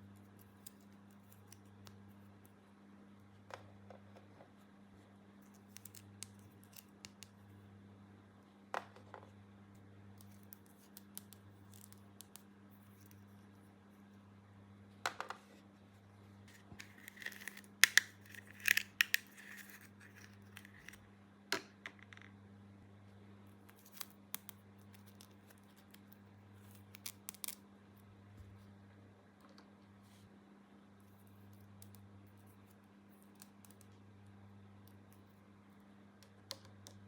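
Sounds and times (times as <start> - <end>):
faint low hum: 0.0 - 37.0.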